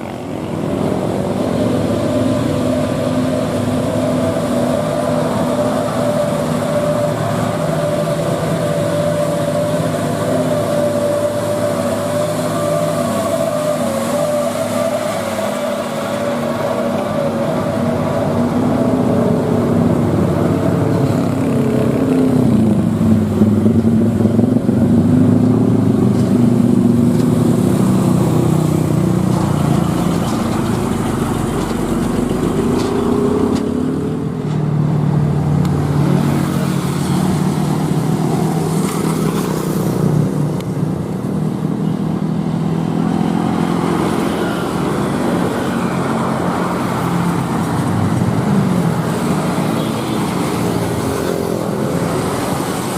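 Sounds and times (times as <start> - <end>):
truck diesel engine labouring uphill: 0.0 - 52.9.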